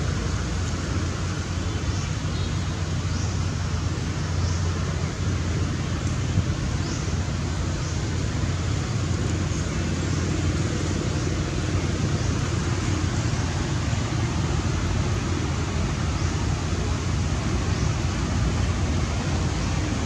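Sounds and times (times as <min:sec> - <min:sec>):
outdoor background rumble with hiss: 0:00.0 - 0:20.0.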